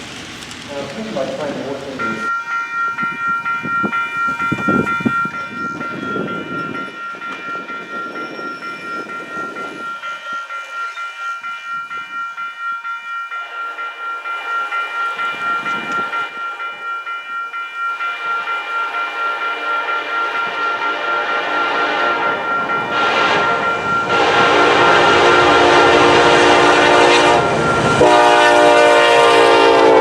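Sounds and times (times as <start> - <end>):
train rumbling: 0.0 - 30.0
grade crossing bell ringing: 1.4 - 30.0.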